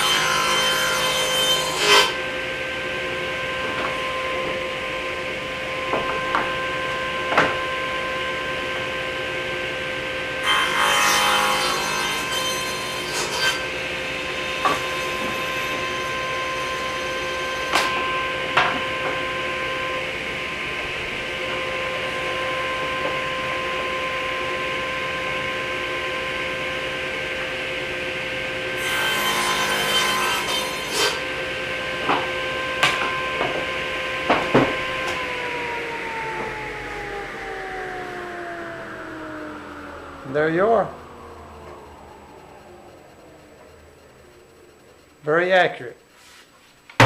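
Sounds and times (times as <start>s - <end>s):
table saw whining: 0.0s - 45.1s.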